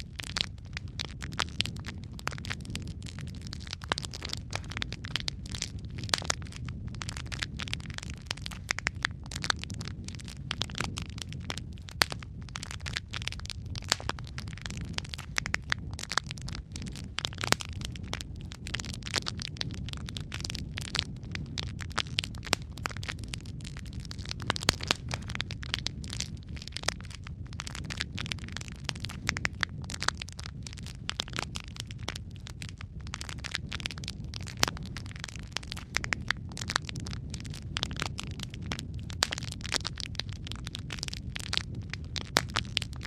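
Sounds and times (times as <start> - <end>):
logs crackling and popping: 0.0 - 43.0
low rumble of flame: 0.0 - 43.0.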